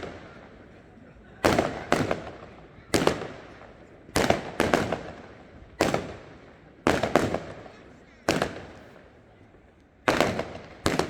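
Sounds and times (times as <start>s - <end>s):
fireworks bangs with echo: 0.0s - 0.5s, 1.4s - 8.9s, 10.0s - 11.0s.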